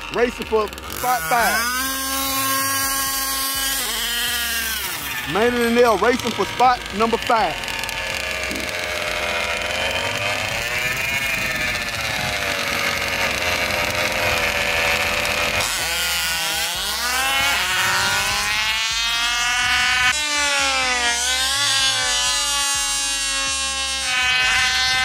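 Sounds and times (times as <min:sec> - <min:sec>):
small two-stroke engines revving: 0:00.0 - 0:25.0.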